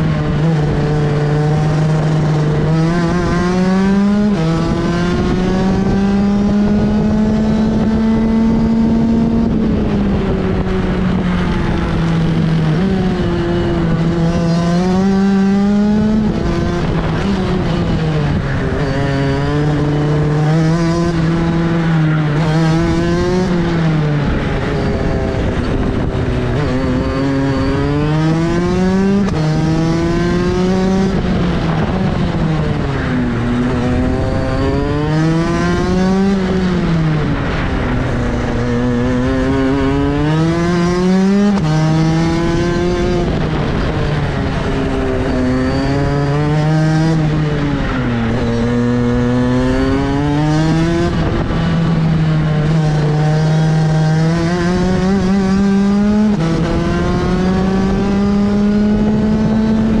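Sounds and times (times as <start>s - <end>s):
go-kart engine revving: 0.0s - 60.0s.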